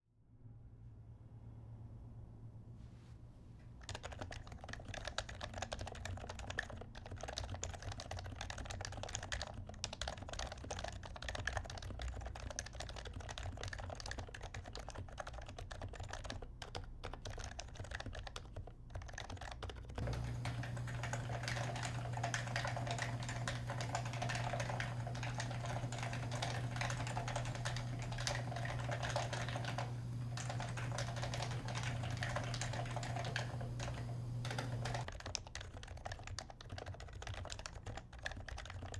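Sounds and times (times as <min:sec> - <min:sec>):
soft keyboard typing: 0:03.8 - 0:38.9.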